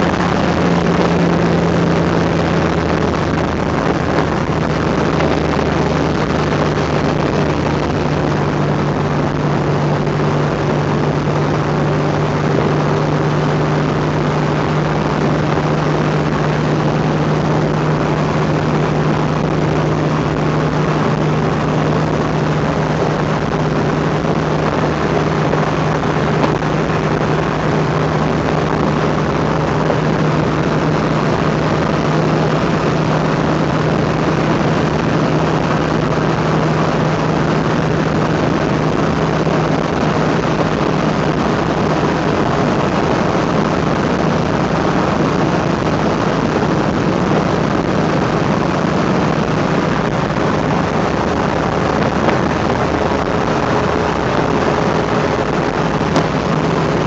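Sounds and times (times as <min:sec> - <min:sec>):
car engine droning: 0:00.0 - 0:57.0
tyre and road noise: 0:00.0 - 0:57.0.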